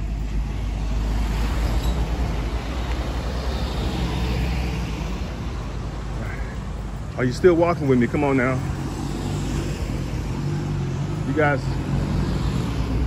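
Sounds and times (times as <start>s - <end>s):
low traffic rumble: 0.0s - 13.0s
passing cars road noise: 0.0s - 13.0s.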